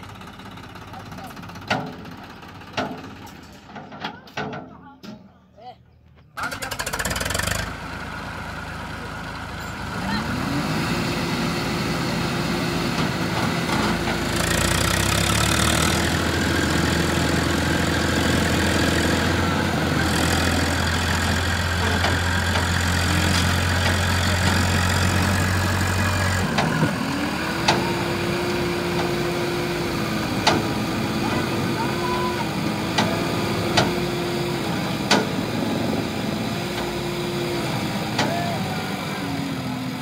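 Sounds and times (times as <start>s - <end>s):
tractor diesel engine under load: 0.0s - 5.2s, 6.3s - 40.0s.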